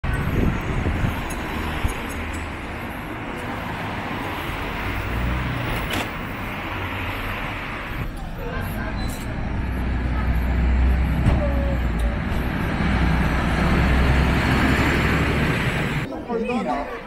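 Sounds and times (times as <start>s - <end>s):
cars and scooters passing: 0.0s - 16.1s
road noise hiss: 0.1s - 16.1s.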